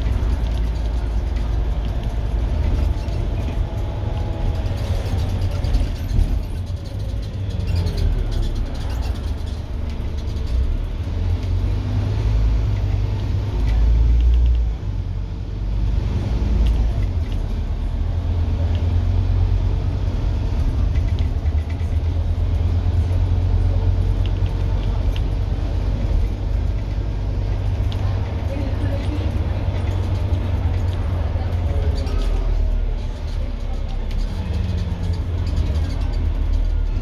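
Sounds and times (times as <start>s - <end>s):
bus diesel engine rumble: 0.0s - 37.0s.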